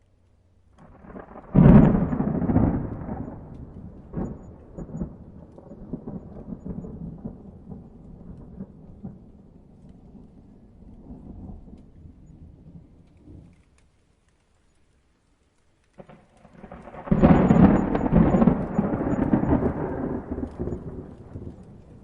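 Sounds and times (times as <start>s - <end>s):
thunder rumbling and cracking: 0.8s - 13.8s, 16.0s - 22.0s.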